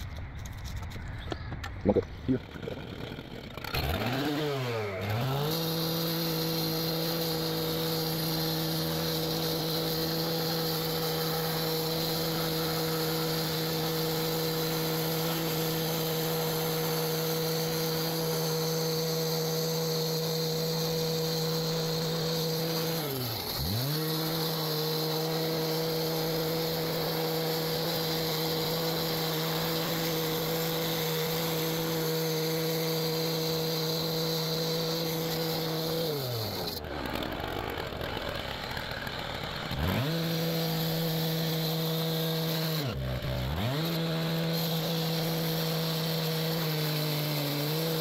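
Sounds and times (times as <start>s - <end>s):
concrete saw cutting concrete: 1.9s - 48.0s.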